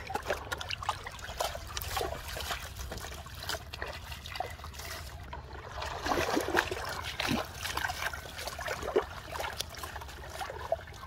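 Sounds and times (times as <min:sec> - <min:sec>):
river water splashing and dripping: 0:00.0 - 0:11.0.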